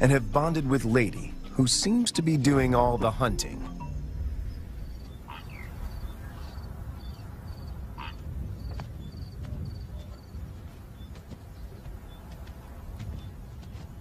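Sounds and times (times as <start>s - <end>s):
insects chirping in trills: 0.0s - 14.0s
steady low rumble: 0.0s - 14.0s.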